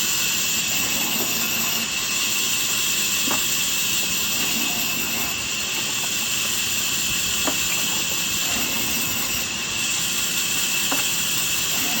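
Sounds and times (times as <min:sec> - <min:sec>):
wood-cutting machine hissing: 0:00.0 - 0:12.0.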